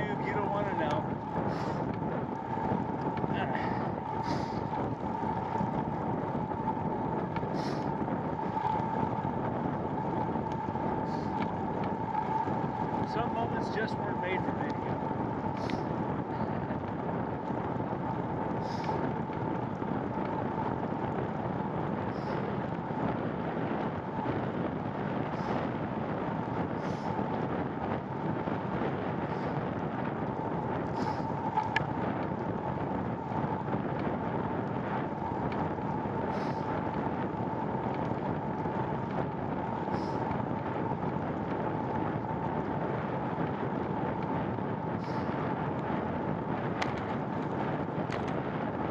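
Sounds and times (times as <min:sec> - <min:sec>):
bicycle rolling noise: 0:00.0 - 0:48.9
rushing wind: 0:00.0 - 0:48.9.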